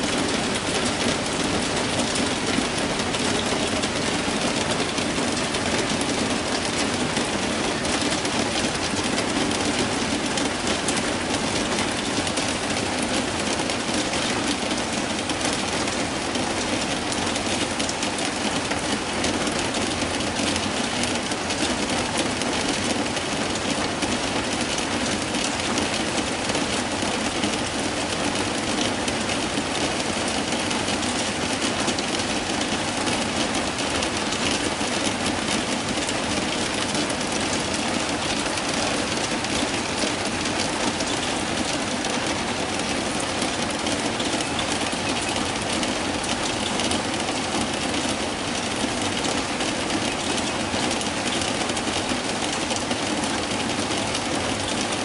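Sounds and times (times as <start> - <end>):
rain on a roof: 0.0 - 55.0.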